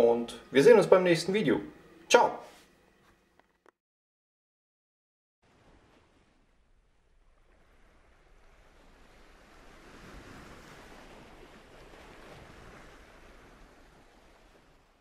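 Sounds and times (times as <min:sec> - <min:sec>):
faint rushing waves: 0:00.0 - 0:02.9, 0:05.4 - 0:15.0.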